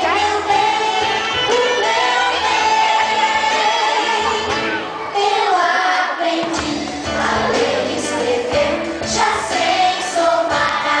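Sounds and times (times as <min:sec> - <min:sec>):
voices singing together: 0:00.0 - 0:11.0.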